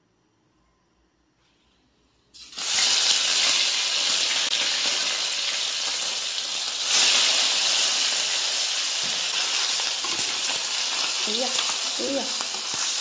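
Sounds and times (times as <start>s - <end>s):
fish sizzling in hot oil: 2.4s - 13.0s.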